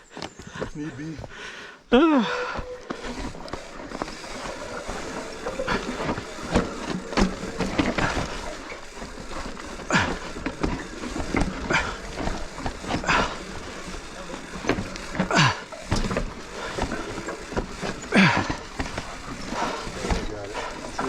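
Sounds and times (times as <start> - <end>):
mountain bike clattering on rocks: 2.5 - 21.0.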